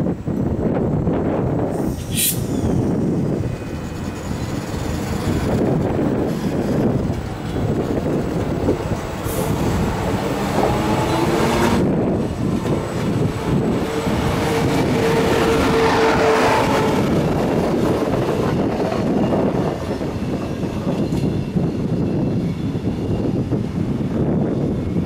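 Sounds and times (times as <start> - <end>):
electric train running past: 0.0 - 25.0.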